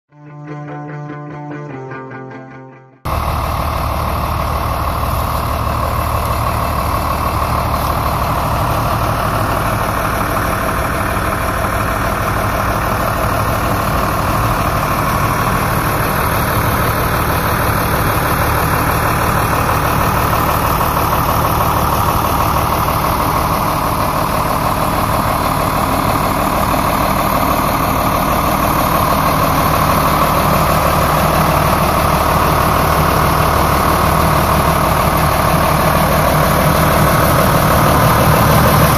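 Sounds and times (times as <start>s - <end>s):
tractor diesel engine idling: 3.1s - 38.9s.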